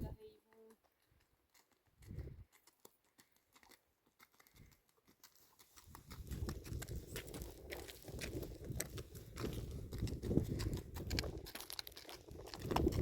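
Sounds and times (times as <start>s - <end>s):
donkey hooves clopping on stones: 0.1s - 13.0s.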